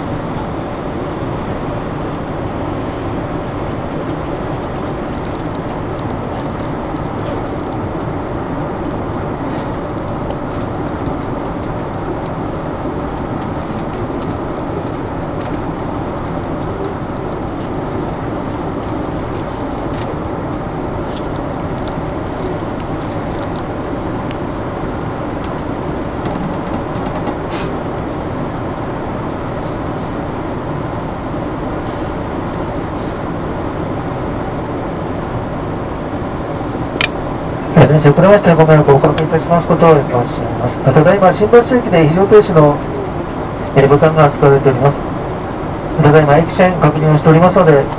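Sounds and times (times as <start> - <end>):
train carriage hum and rumble: 0.0 - 47.9.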